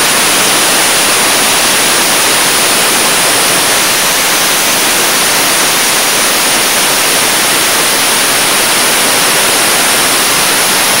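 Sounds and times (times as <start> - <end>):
blaster nozzle hissing: 0.0 - 11.0.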